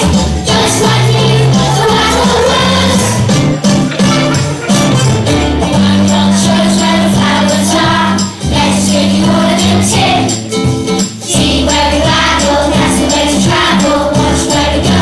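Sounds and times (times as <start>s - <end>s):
children singing together: 0.0s - 10.4s, 11.2s - 15.0s
backing music: 0.0s - 15.0s
jingling shaken percussion: 0.0s - 15.0s.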